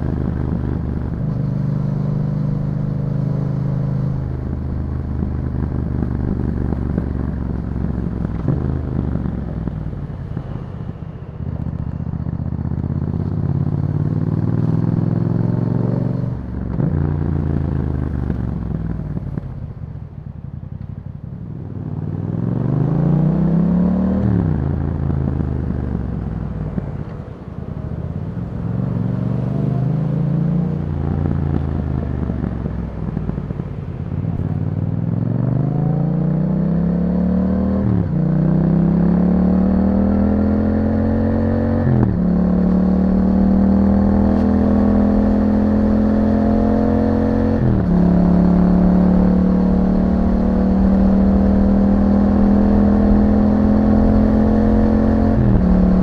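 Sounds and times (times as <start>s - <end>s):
motorcycle engine revving and shifting: 0.0s - 10.7s, 11.6s - 19.6s, 21.7s - 27.2s, 27.8s - 56.0s.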